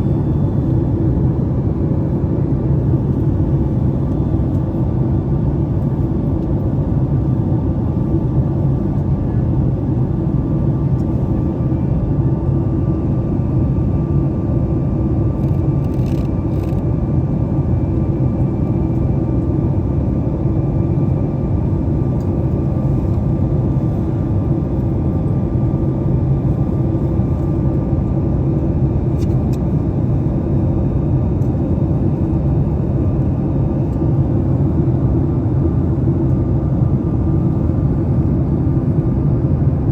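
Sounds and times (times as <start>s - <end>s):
faint steady whine: 0.0s - 39.9s
jet engine drone: 0.0s - 39.9s.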